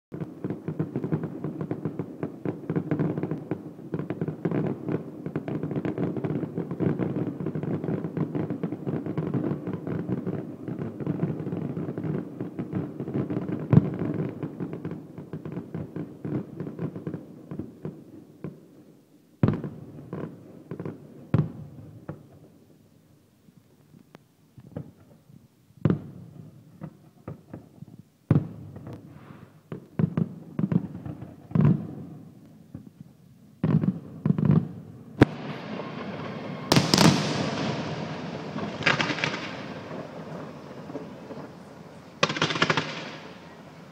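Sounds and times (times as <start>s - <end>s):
fireworks bangs and crackling: 0.1s - 43.9s.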